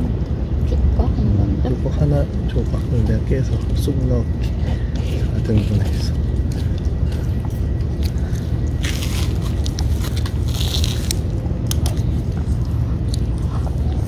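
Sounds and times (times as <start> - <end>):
steady low rumble: 0.0 - 14.0
cats chewing and lapping: 1.8 - 14.0.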